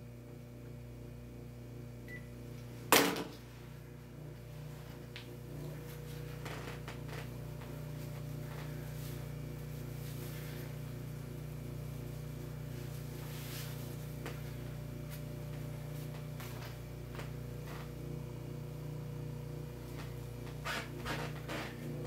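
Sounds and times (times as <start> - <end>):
steady low pulsing hum: 0.0 - 22.0.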